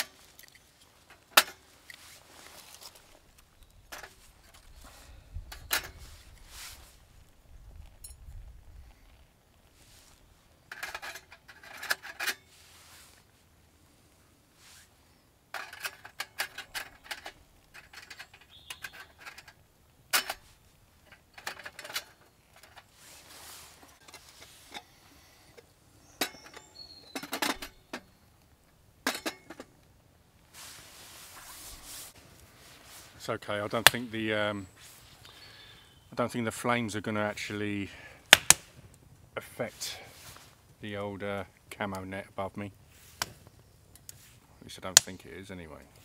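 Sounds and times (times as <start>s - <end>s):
rustling: 0.0s - 35.6s, 39.5s - 40.8s, 42.8s - 44.6s.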